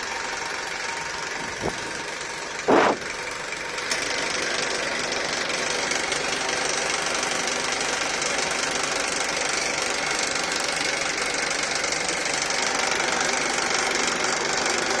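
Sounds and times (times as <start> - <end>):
car engine running with rattle: 0.0 - 15.0.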